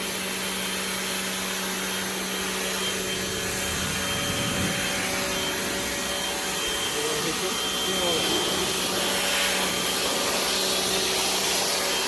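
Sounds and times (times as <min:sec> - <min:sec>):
pressure washer motor humming: 0:00.0 - 0:12.0
water jet hissing: 0:02.1 - 0:12.0.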